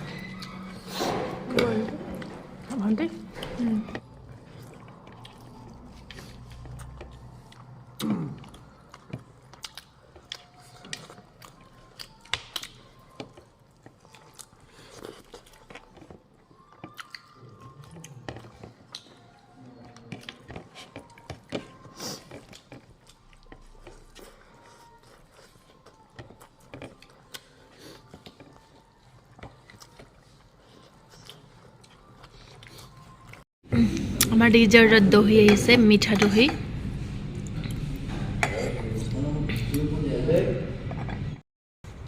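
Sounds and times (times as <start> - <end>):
person chewing food: 0.0 - 34.3, 36.7 - 39.8.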